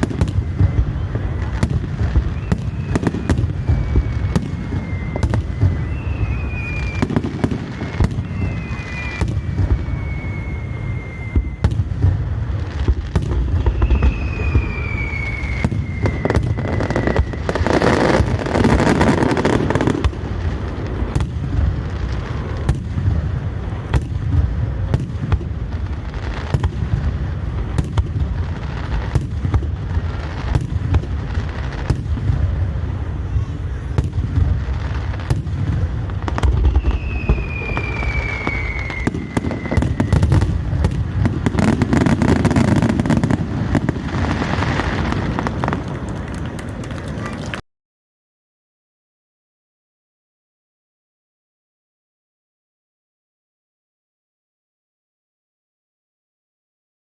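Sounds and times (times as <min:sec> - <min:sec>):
falling firework whistles: 0:00.0 - 0:47.6
firework crackling: 0:00.0 - 0:47.6
fireworks bursting: 0:00.0 - 0:47.6.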